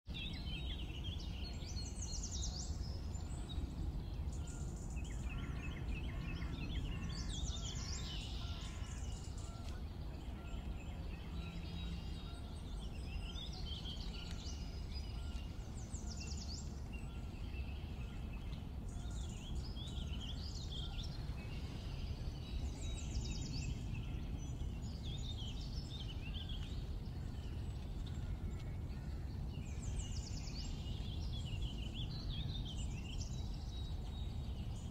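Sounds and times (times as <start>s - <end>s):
songbirds chirping and trilling: 0.1s - 34.9s
low outdoor rumble: 0.2s - 34.9s.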